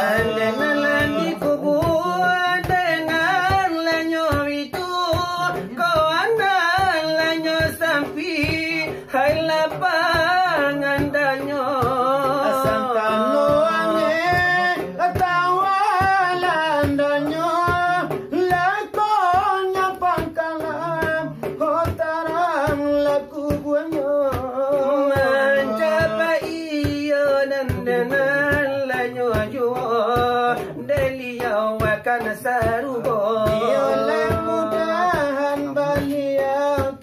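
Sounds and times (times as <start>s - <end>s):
men singing devotional chant: 0.0s - 37.0s.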